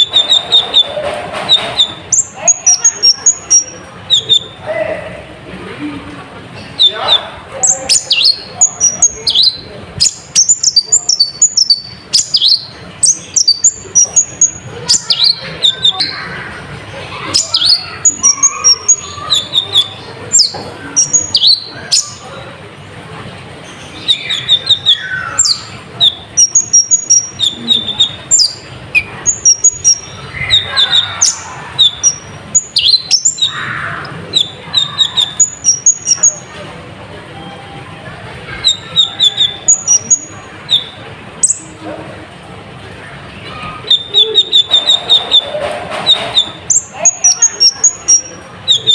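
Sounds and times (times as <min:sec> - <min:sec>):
bird singing high chirps: 0:00.0 - 0:04.6, 0:06.6 - 0:16.5, 0:17.1 - 0:22.4, 0:23.6 - 0:36.6, 0:38.5 - 0:41.7, 0:43.6 - 0:48.9.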